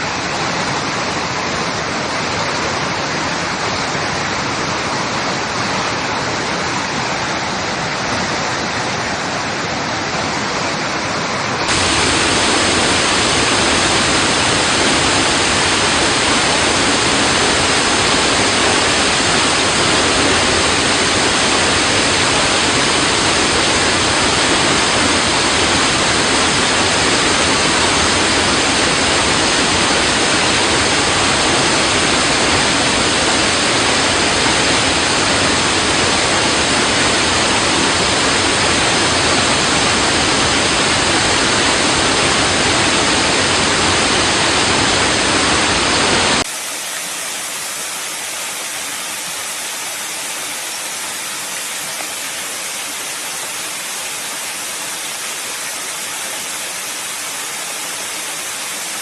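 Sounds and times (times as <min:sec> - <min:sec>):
water rushing against rocks: 0:00.0 - 0:59.0.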